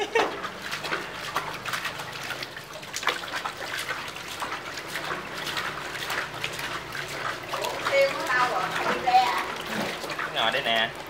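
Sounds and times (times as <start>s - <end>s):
water sloshing in a washbasin: 0.0s - 11.0s
water trickling: 0.0s - 11.0s.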